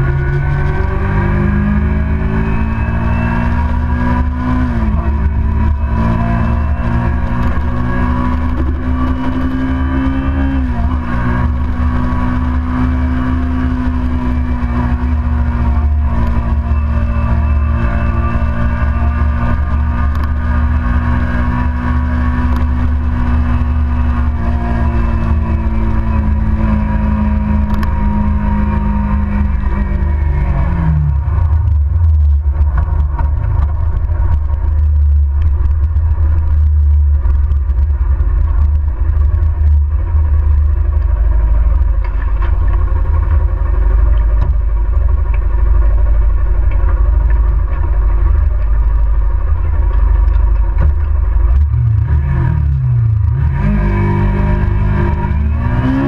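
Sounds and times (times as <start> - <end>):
motorcycle engine slowing and idling: 0.0 - 56.0.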